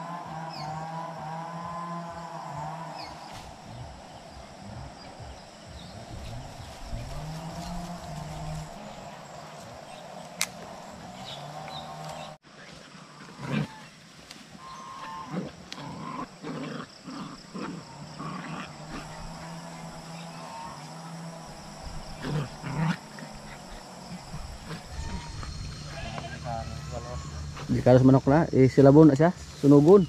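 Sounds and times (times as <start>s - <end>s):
steady low hum: 0.0s - 12.4s, 16.0s - 29.6s
farm animals calling: 0.0s - 14.0s, 14.6s - 28.1s.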